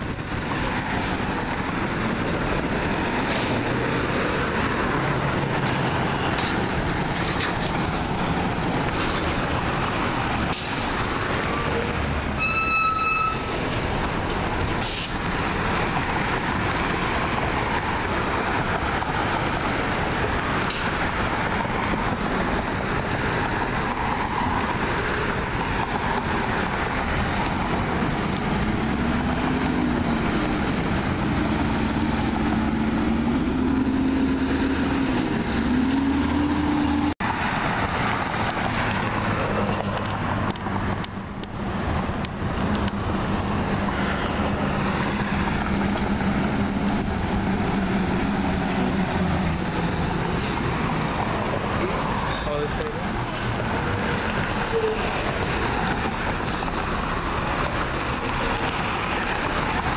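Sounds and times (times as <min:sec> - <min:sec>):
drone of trucks: 0:00.0 - 0:59.9
passing cars: 0:00.0 - 0:59.9.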